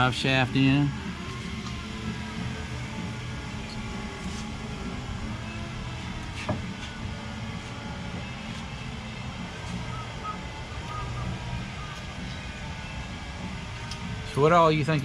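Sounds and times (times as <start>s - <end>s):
workshop background noise: 0.0s - 15.0s.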